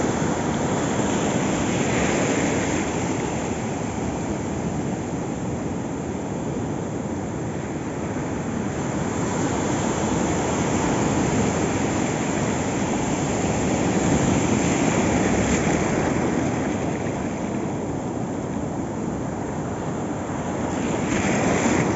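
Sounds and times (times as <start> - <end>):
ocean surf washing on sand: 0.0 - 21.9.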